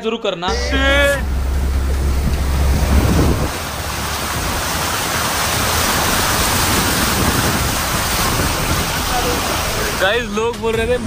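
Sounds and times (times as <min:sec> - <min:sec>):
car splashing through floodwater: 0:00.5 - 0:10.3.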